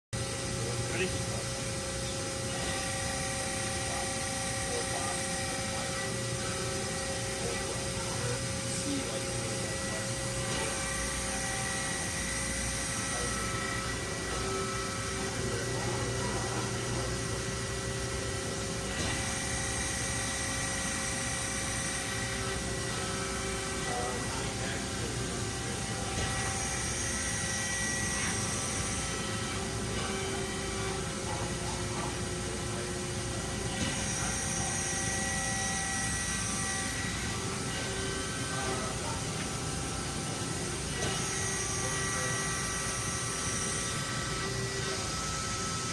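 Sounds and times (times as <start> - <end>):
motor and pump humming: 0.2 - 45.9.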